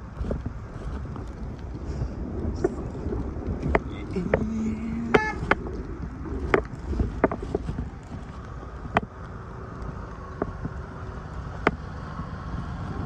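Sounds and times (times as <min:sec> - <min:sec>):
faint steady hum: 0:00.0 - 0:13.0
wind rumble on microphone: 0:00.0 - 0:13.0.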